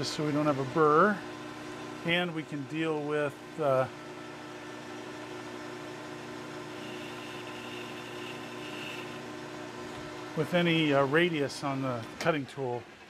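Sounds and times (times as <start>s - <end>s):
faint high cutting whine: 0.0s - 13.0s
metal lathe humming: 0.0s - 13.0s.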